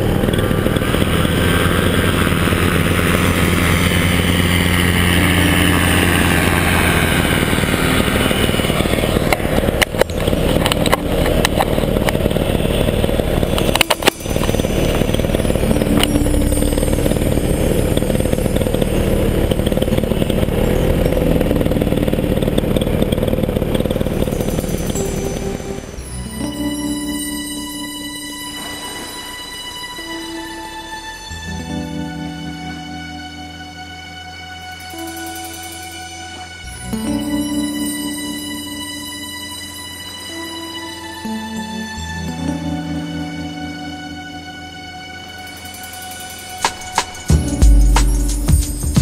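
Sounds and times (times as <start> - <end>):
paramotor engine and propeller: 0.0 - 47.7.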